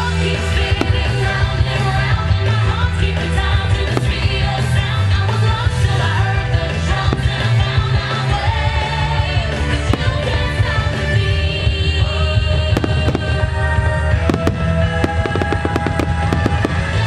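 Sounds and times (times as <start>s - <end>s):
rock-pop song with singing: 0.0s - 17.0s
firework bangs: 0.4s - 17.0s.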